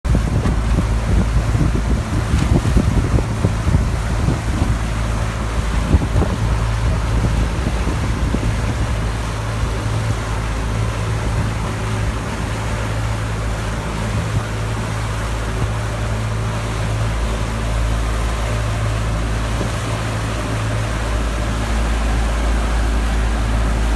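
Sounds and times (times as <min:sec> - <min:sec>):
boat engine humming: 0:00.0 - 0:23.9
wind noise on microphone: 0:00.0 - 0:23.9.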